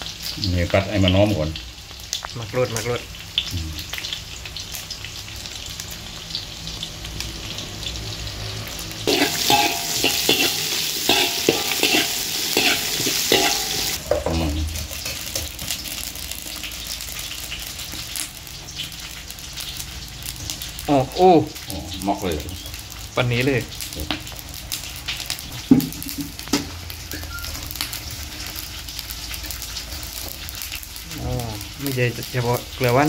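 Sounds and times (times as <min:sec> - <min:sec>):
aromatics sizzling in a wok: 0:00.0 - 0:33.0.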